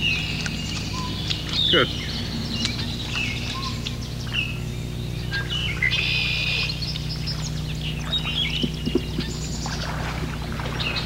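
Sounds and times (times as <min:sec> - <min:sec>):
harsh buzzy bird call: 0:00.0 - 0:09.9
songbirds chirping and whistling: 0:00.0 - 0:11.0
steady low hum: 0:00.0 - 0:11.0.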